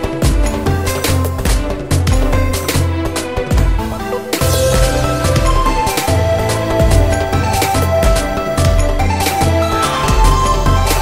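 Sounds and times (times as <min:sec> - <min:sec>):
background music with pulsing bass: 0:00.0 - 0:11.0.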